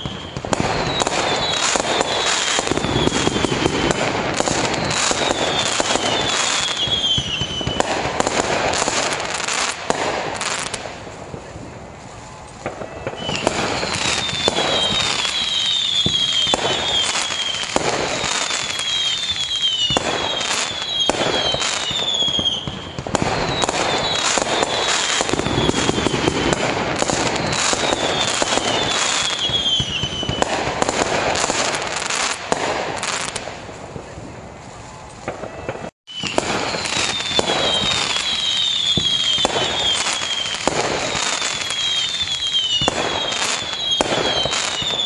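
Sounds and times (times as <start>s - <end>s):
falling firework whistles: 0.0s - 45.0s
fireworks bangs: 0.0s - 45.0s
fireworks crackling: 0.0s - 45.0s.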